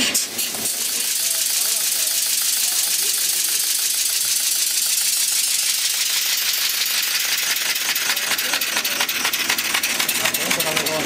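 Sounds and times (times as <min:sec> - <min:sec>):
clatter of exhaust puffs: 0:00.0 - 0:11.0.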